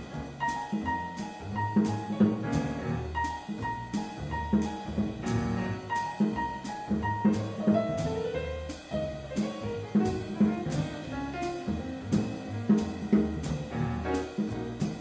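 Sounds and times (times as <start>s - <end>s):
double bass: 0.0s - 15.0s
drum kit beat: 0.0s - 15.0s
piano: 0.0s - 15.0s.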